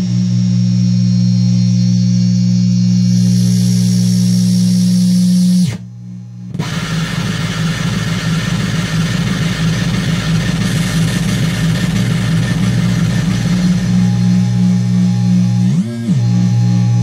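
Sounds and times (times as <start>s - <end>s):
dark synthesizer drone: 0.0s - 17.0s.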